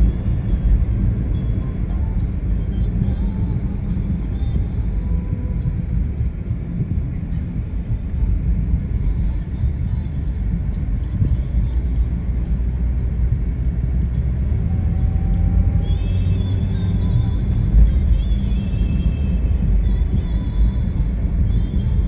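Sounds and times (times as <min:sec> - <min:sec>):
car road and engine rumble: 0:00.0 - 0:22.0
faint songs from car stereo: 0:00.0 - 0:22.0.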